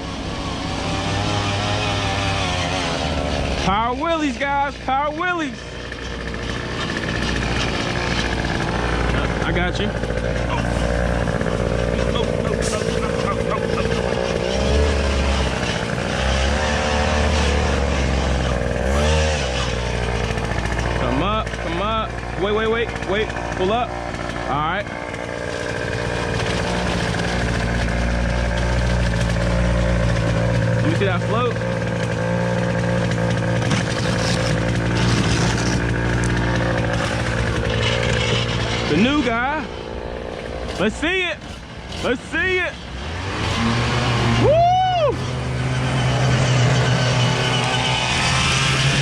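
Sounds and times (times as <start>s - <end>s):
small gas engine revving: 0.0s - 49.0s.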